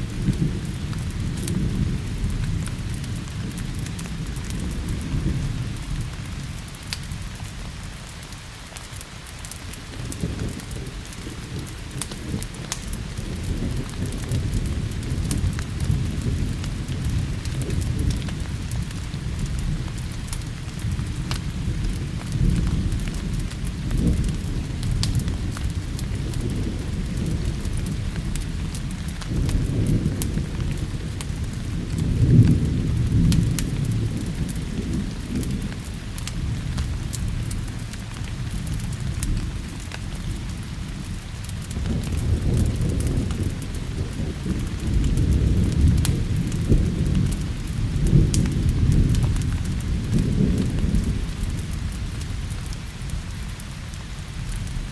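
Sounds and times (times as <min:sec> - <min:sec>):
low rolling thunder: 0:00.0 - 0:08.0, 0:09.5 - 0:54.9
steady rain: 0:00.0 - 0:54.9
sharp crackles: 0:00.1 - 0:54.9.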